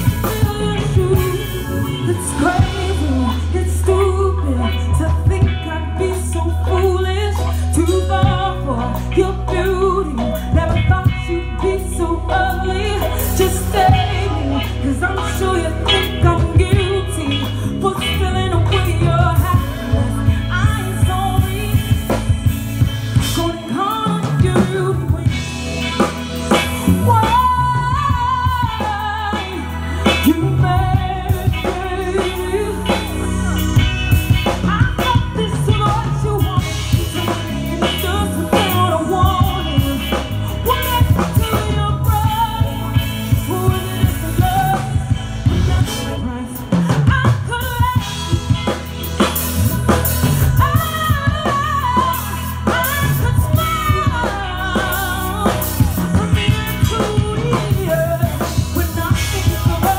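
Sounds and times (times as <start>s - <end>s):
pop-soul music with drums and bass: 0.0s - 59.9s
woman singing into microphone: 0.0s - 59.9s.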